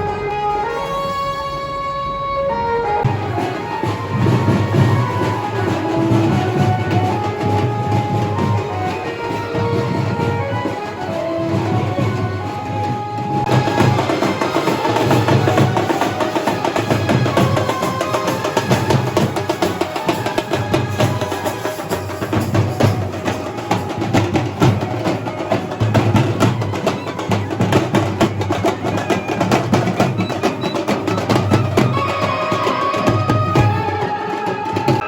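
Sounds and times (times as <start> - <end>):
drum band playing: 3.0 - 35.0.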